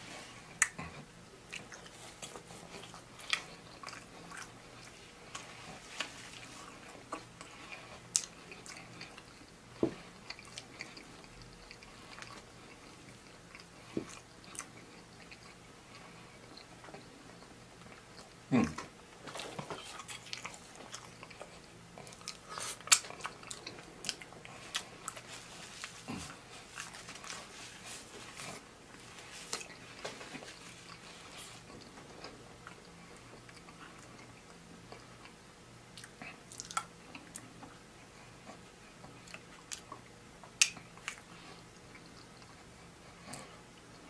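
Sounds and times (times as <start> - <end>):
chewing and mouth sounds: 0.4 - 44.0.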